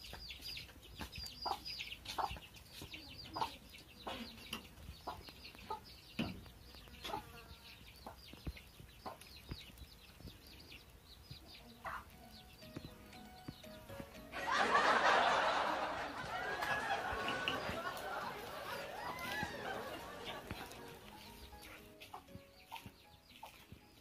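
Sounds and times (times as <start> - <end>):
chicks peeping: 0.0 - 14.3, 15.7 - 24.0
chickens clucking: 0.0 - 24.0.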